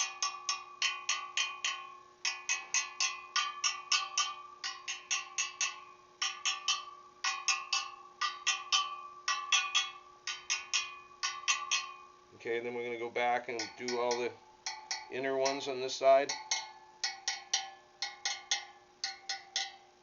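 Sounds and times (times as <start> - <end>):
wheel spokes tapped ringing: 0.0 - 20.0.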